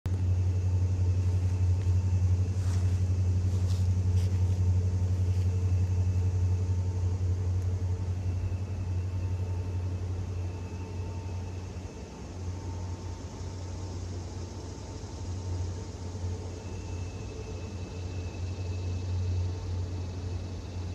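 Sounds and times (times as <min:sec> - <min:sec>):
faint even hum: 0:00.1 - 0:20.9
low engine rumble: 0:00.1 - 0:20.9.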